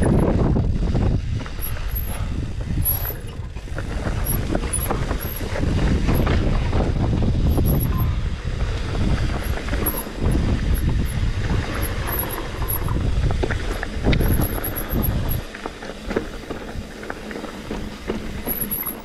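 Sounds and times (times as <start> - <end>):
bike rattling: 0.0 - 19.0
tyres crunching on dirt: 0.0 - 19.0.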